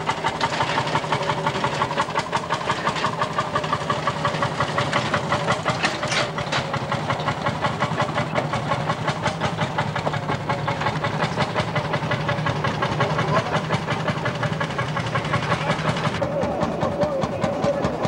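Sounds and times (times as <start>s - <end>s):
tractor engine chugging: 0.0s - 18.0s.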